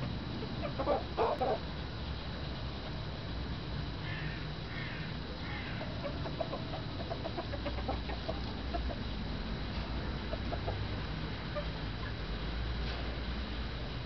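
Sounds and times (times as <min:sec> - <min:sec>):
chickens clucking: 0:00.0 - 0:03.0, 0:04.2 - 0:13.1
steady low rumble: 0:00.0 - 0:14.0.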